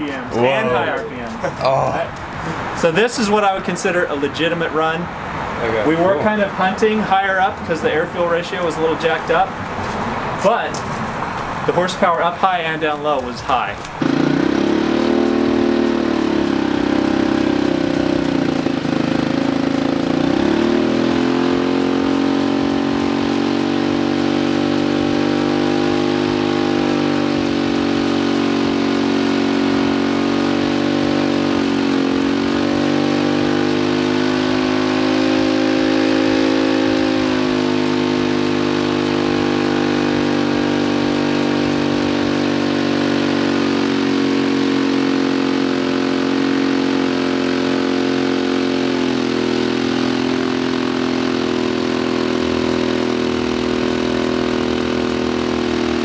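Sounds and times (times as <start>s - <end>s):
engine running under load: 6.8s - 56.0s.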